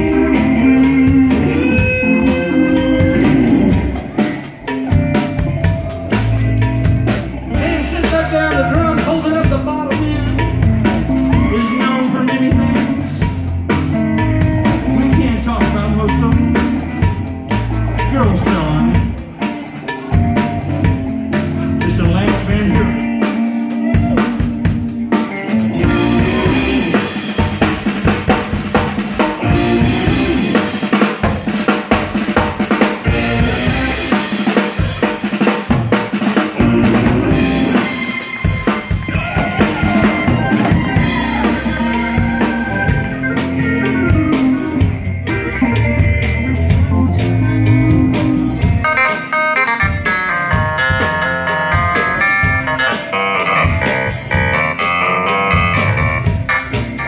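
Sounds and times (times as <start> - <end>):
repeating bass line: 0.0 - 19.4, 25.6 - 31.5, 33.1 - 34.2, 36.6 - 57.0
drum kit groove: 0.0 - 57.0
higher melodic notes: 0.0 - 57.0.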